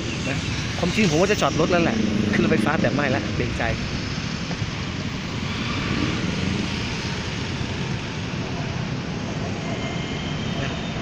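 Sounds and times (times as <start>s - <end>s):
road traffic hum: 0.0s - 11.0s
train rushing rumble: 0.0s - 11.0s.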